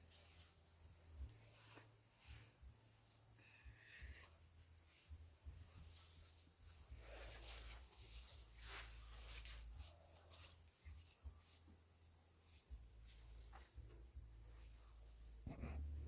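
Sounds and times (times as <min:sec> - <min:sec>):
faint scratching and rustling: 0:00.0 - 0:16.0.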